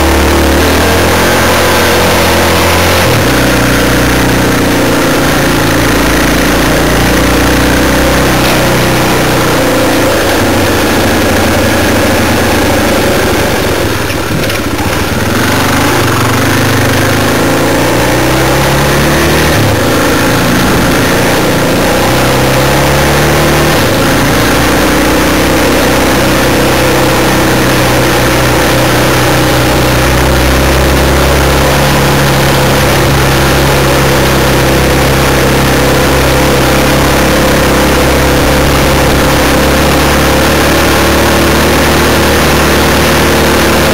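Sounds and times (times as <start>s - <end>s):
constant rushing noise: 0.0s - 43.9s
motorcycle engine revving: 0.0s - 43.9s.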